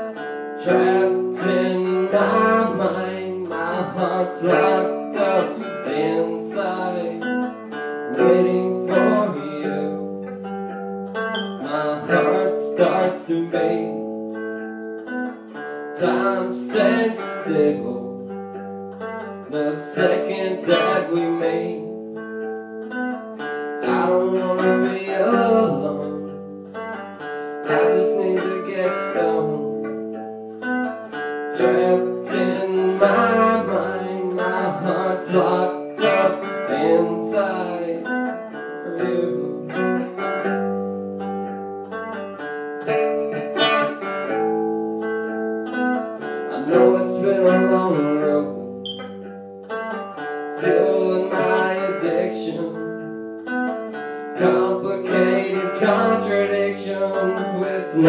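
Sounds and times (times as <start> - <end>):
electric guitar strumming chords: 0.0 - 58.0.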